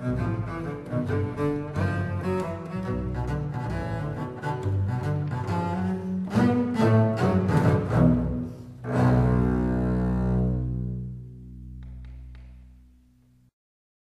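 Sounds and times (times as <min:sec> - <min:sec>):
bowed double basses playing: 0:00.0 - 0:13.2.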